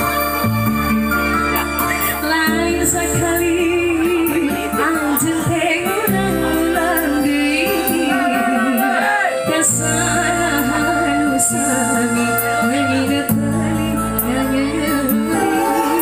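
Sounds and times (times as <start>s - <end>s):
live band music: 0.0s - 16.0s
woman singing into microphone: 1.8s - 16.0s.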